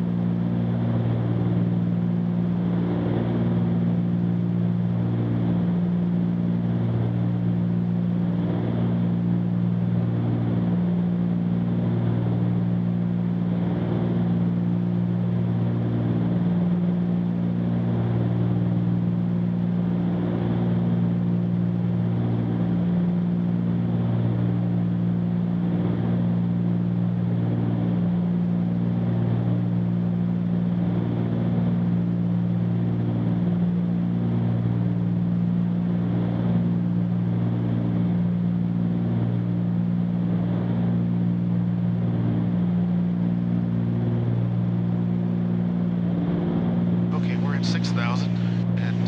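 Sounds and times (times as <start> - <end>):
propeller plane engines droning: 0.0 - 49.0.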